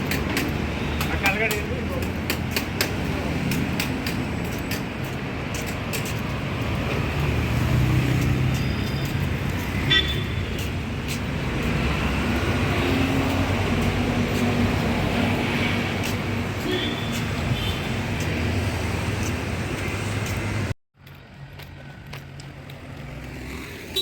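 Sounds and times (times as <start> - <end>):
passing vehicle engines: 0.0 - 24.0.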